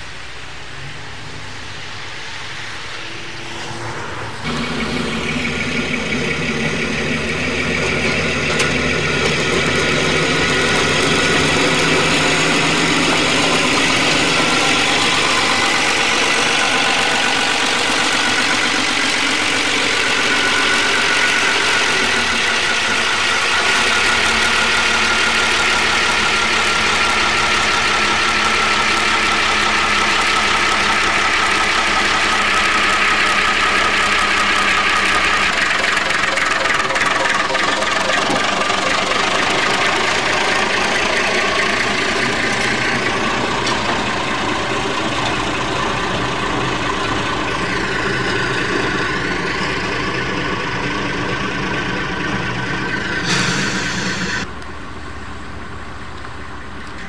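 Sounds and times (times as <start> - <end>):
diesel locomotive engine running: 0.0 - 57.0
wagons rolling on track: 0.7 - 54.5.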